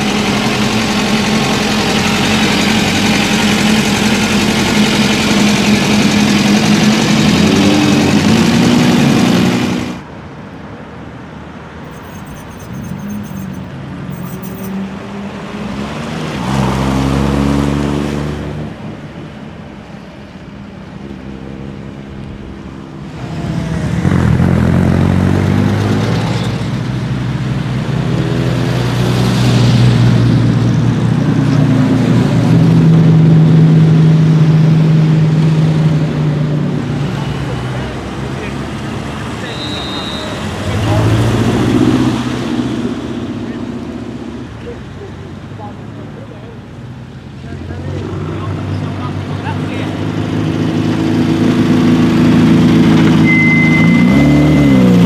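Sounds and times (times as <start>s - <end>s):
sports car engines accelerating: 0.0s - 10.2s, 11.8s - 55.0s.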